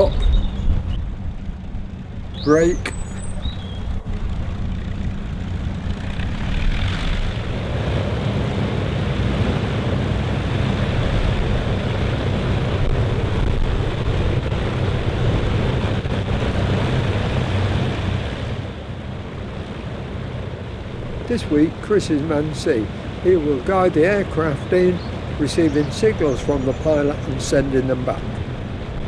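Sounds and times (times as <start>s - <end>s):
propeller aircraft engines droning: 0.0s - 29.0s.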